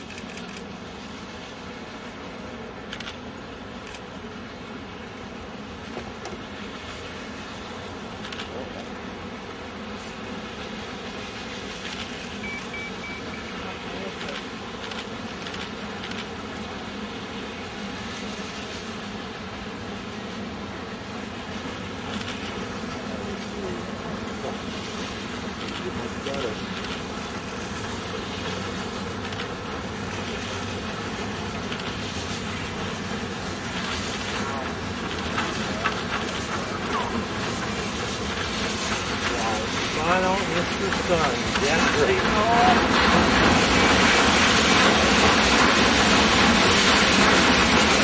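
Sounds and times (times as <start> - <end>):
steam locomotive rumbling: 0.0 - 48.0.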